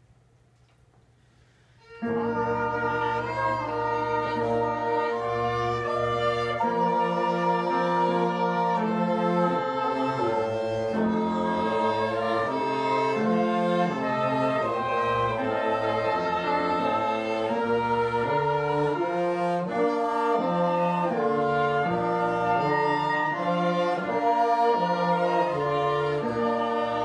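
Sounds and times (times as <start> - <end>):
strings and brass ensemble chords: 1.9 - 27.0.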